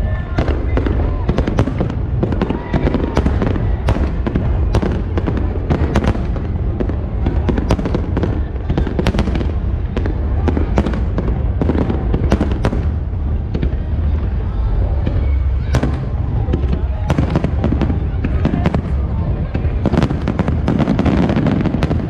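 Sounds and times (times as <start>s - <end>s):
deep rumble of booms: 0.0s - 22.0s
firework bursts and crackles: 0.0s - 22.0s.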